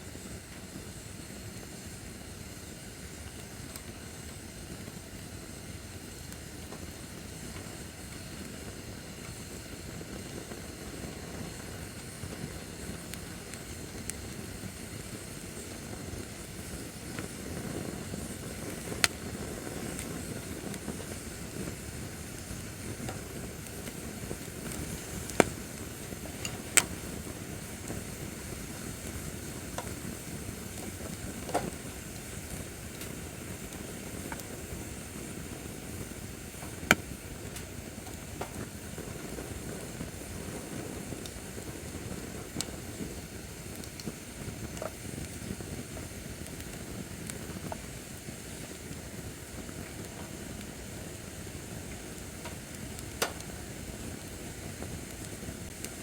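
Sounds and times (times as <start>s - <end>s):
fire burning low rumble: 0.0s - 56.0s
fire crackling and popping: 0.0s - 56.0s.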